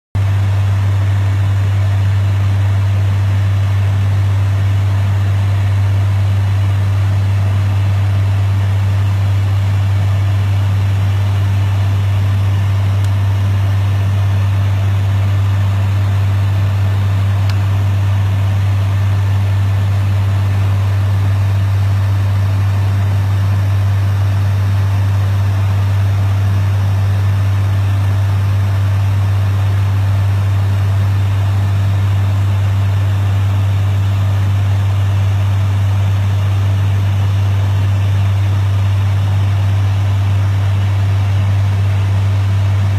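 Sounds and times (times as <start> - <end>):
engine and air noise: 0.2 - 42.9
propeller hum: 0.2 - 42.9.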